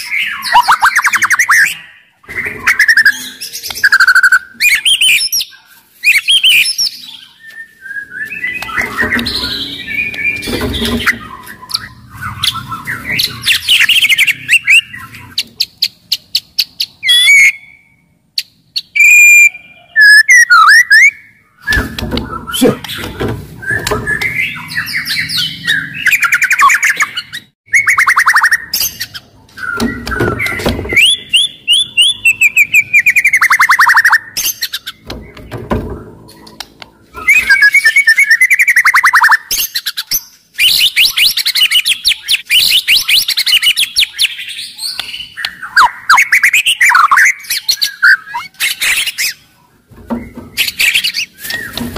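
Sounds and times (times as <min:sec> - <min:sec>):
bird singing trills and whistles: 0:00.0 - 0:51.9.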